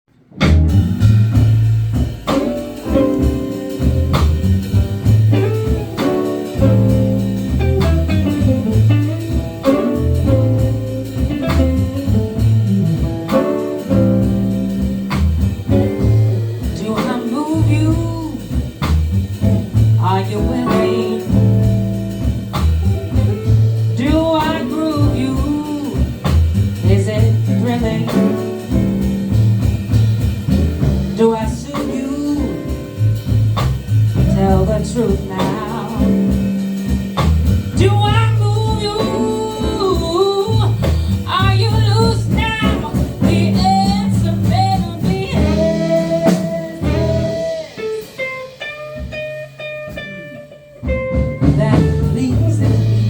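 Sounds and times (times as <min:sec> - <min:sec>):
drum kit: 0:00.0 - 0:53.0
bending lead guitar lines: 0:00.3 - 0:26.5, 0:34.2 - 0:53.0
bass line: 0:00.3 - 0:48.2, 0:50.5 - 0:53.0.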